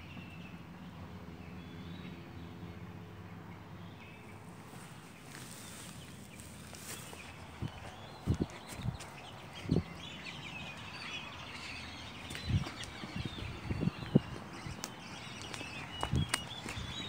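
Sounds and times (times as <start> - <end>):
birds twittering: 0.0 - 17.0.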